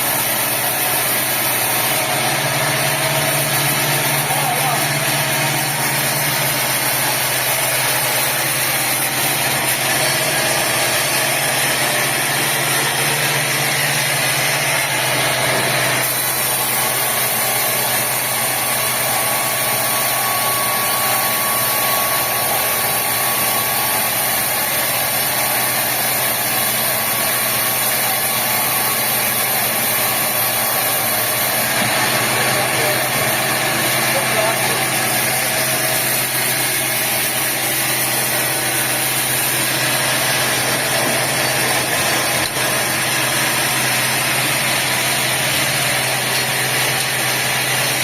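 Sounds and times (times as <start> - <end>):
sawmill machinery running: 0.0 - 48.0.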